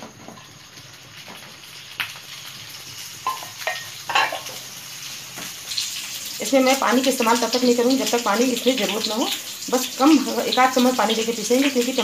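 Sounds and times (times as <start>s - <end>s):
gourds sizzling in hot oil: 0.0s - 12.0s.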